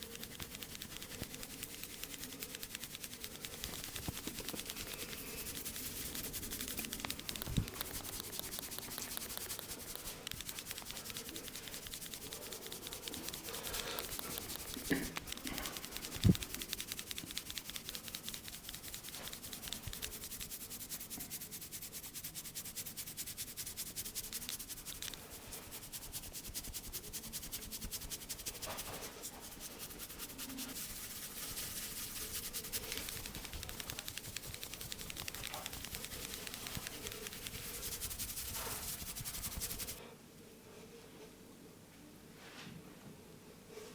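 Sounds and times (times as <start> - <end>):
hands rubbing through hair: 0.0 - 40.0.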